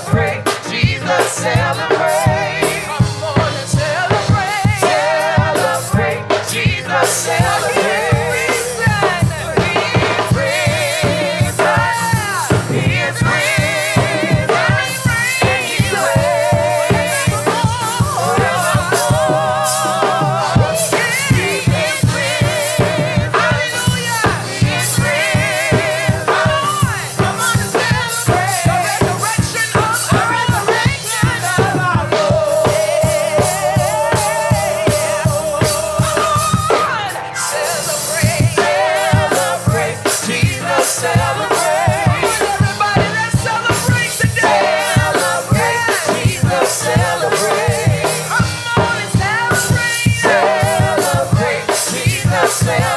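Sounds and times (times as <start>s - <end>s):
bass: 0.0s - 52.9s
drum kit beat: 0.0s - 52.9s
person singing with vibrato: 0.0s - 52.9s.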